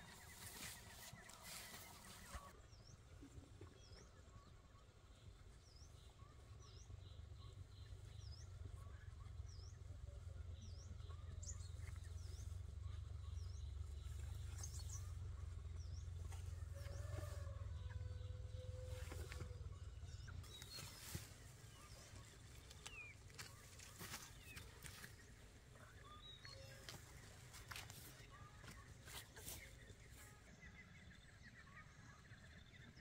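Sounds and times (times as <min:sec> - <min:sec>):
steady low rumble: 0:02.0 - 0:32.0.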